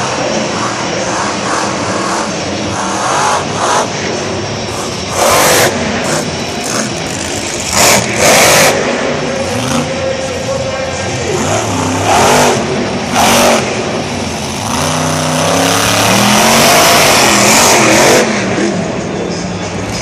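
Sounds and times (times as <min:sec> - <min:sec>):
truck engine revving hard: 0:00.0 - 0:19.2.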